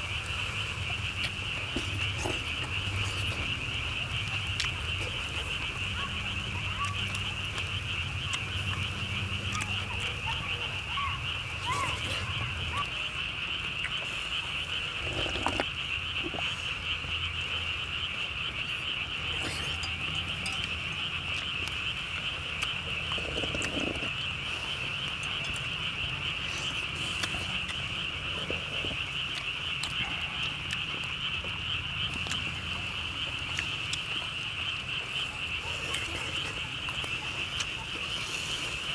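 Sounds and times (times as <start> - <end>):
frogs calling: 0.0 - 38.9.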